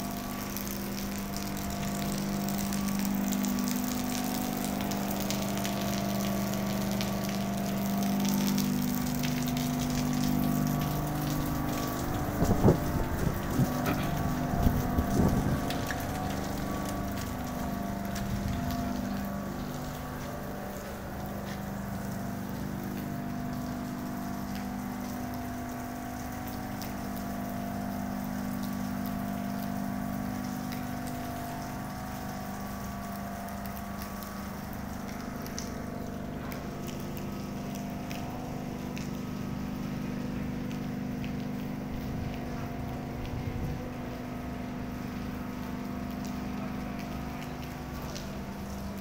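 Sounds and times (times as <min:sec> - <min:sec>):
machinery hum: 0:00.0 - 0:49.0.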